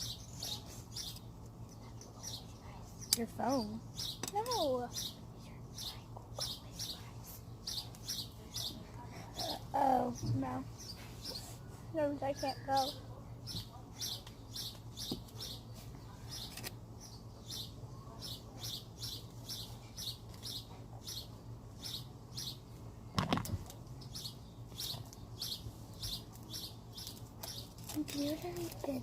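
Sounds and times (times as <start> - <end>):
small bird chirping: 0.0 - 22.8, 23.9 - 29.0.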